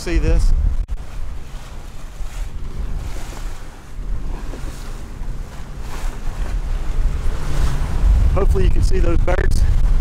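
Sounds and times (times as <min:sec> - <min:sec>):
boat engine rumble: 0:00.0 - 0:10.0
water splashing along hull: 0:00.0 - 0:10.0
wind buffeting the microphone: 0:00.0 - 0:10.0.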